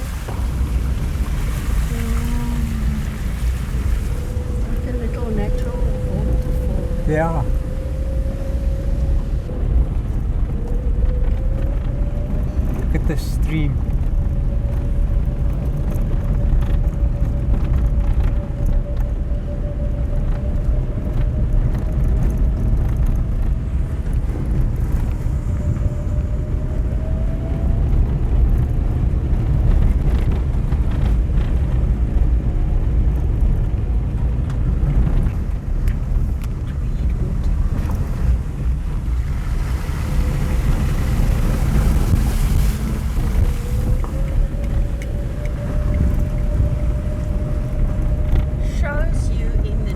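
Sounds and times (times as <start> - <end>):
car driving on gravel: 0.0 - 49.9.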